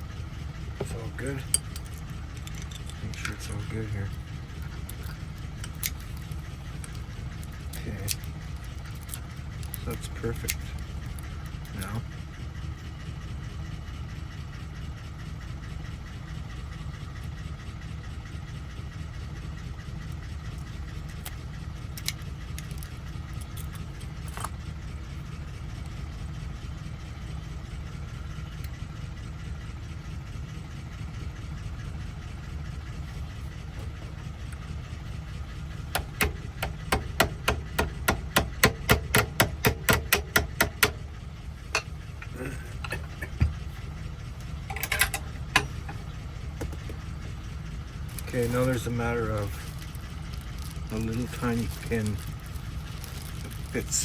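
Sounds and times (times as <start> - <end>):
low engine-like hum: 0.0 - 54.0.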